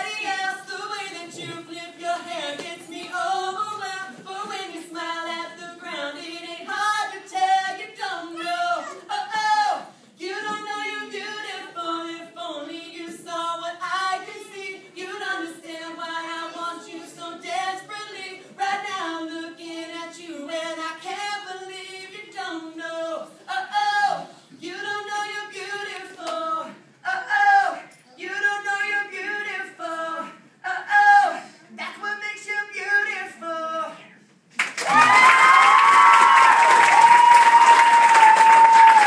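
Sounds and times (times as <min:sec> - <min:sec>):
woman singing unaccompanied: 0:00.0 - 0:34.0.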